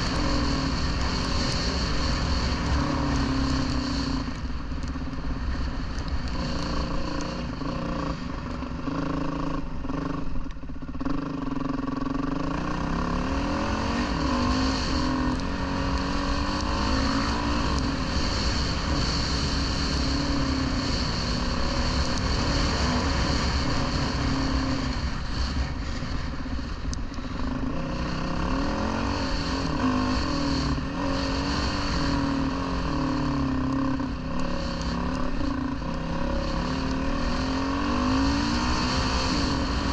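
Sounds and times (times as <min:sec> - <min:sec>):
dirt bike engine revving: 0:00.0 - 0:04.4, 0:05.5 - 0:26.7, 0:27.3 - 0:39.9.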